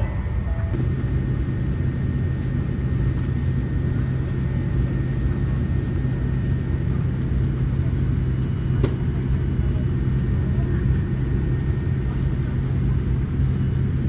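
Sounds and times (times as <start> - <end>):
low cabin drone: 0.0 - 14.0.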